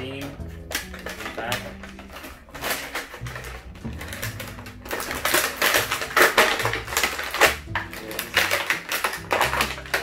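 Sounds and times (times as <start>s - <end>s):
plastic packaging crackling: 0.0s - 10.0s.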